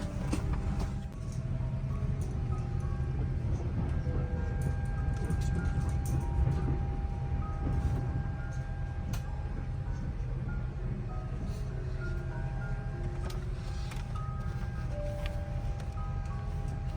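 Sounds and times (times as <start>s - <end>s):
cabin air conditioning rumble: 0.0s - 16.9s.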